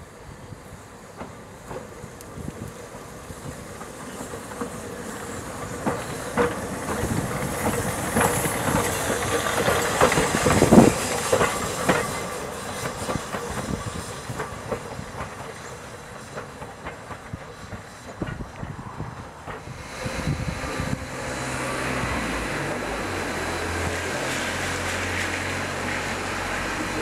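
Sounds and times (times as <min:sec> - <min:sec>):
steam hiss: 0:00.0 - 0:27.0
wheels clicking over rail joints: 0:01.0 - 0:27.0.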